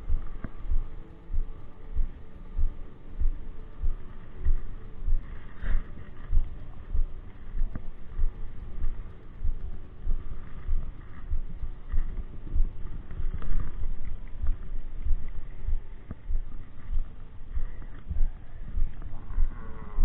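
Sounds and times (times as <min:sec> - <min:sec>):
wind noise: 0:00.0 - 0:20.0.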